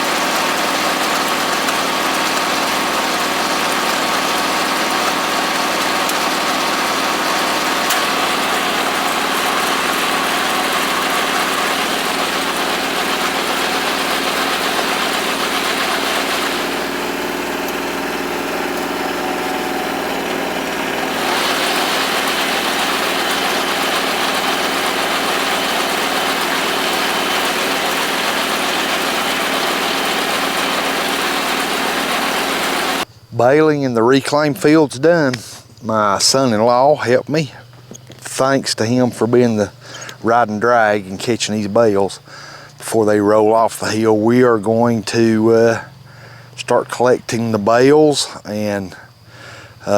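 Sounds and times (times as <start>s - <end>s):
baler hissing: 0.0s - 33.6s, 34.4s - 49.9s
tractor diesel engine running: 0.0s - 49.9s.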